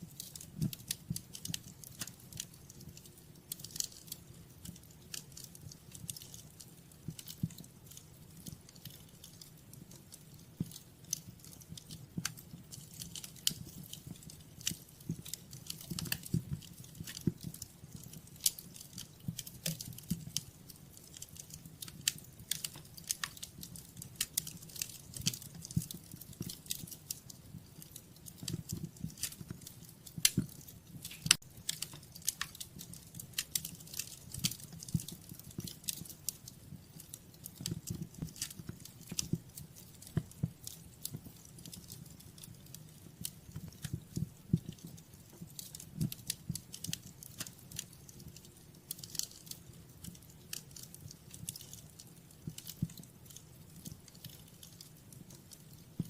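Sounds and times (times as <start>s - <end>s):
fire pops and snaps: 0.0s - 56.0s
low rumble of burning: 0.0s - 56.0s.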